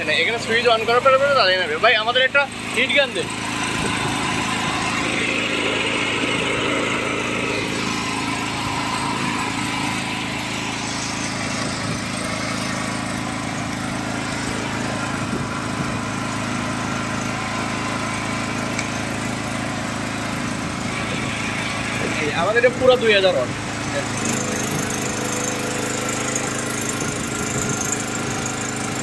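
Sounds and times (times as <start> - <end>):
generator engine drone: 0.0 - 29.0.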